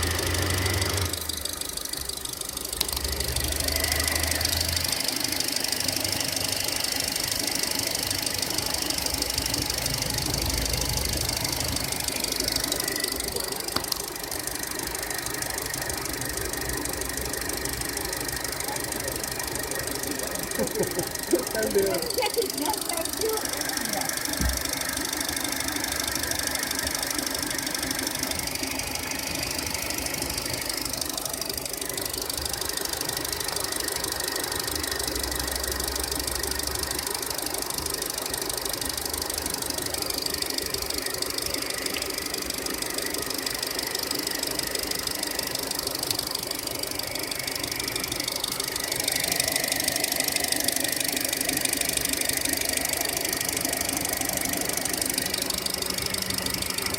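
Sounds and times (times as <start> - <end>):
engine running with ticking knock: 0.0 - 56.9.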